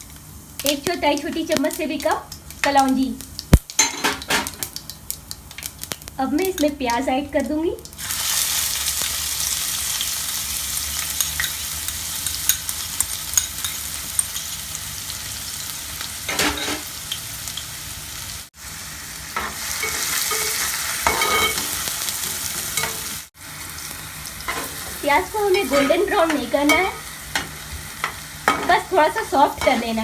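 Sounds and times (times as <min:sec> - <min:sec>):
onion sizzling in oil: 0:00.0 - 0:30.0.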